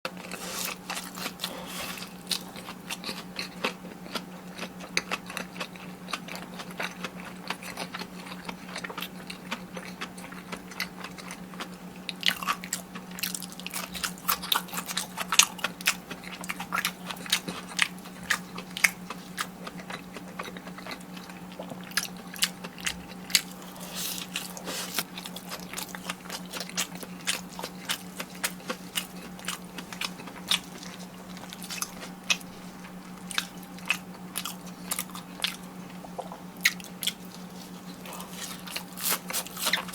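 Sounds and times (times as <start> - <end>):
chewing crispy fried food: 0.1 - 39.9.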